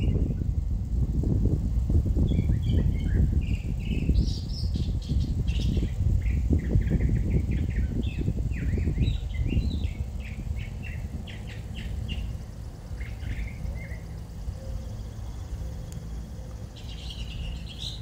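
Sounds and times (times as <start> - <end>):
low rumbling noise: 0.0 - 18.0
songbirds chirping: 0.0 - 18.0.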